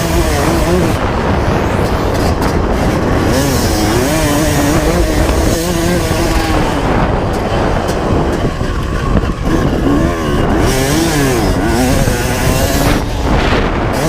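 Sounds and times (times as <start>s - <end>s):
motocross engine revving: 0.0s - 14.0s.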